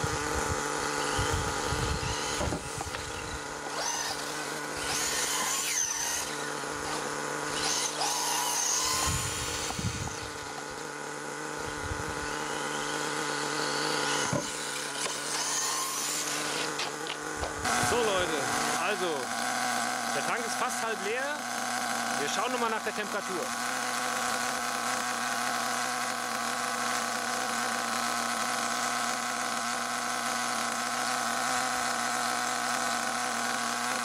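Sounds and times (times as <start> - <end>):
model engine whining: 0.0 - 34.0
toy car motor whining: 0.0 - 34.0.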